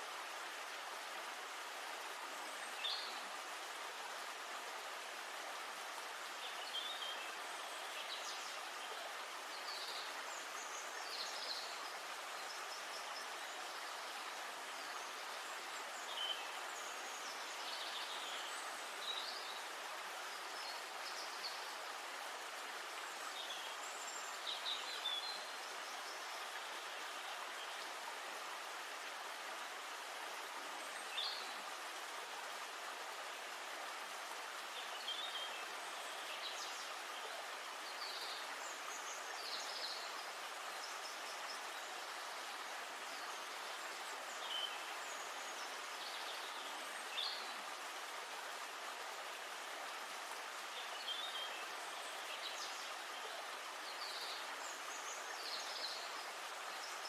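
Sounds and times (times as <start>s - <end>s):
river water flowing: 0.0s - 57.0s
songbirds chirping: 0.1s - 57.0s.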